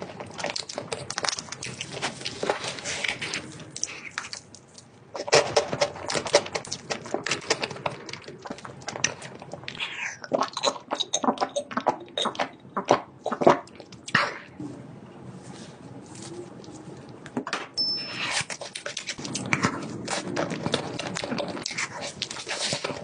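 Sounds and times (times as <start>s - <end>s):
chewing and crunching: 0.0s - 14.6s, 18.2s - 23.0s.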